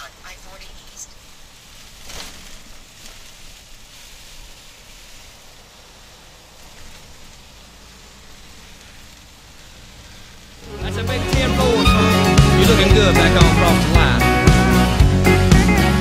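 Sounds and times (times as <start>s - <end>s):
rain and tyre spray hiss: 0.0s - 16.0s
truck engine and road rumble: 0.0s - 16.0s.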